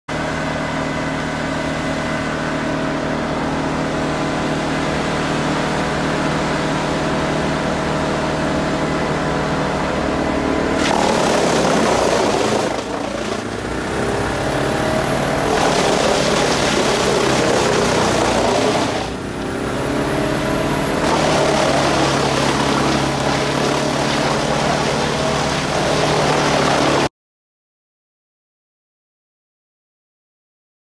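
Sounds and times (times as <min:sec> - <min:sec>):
engine running steadily: 0:00.1 - 0:27.1
wood chipper grinding logs: 0:00.1 - 0:27.1.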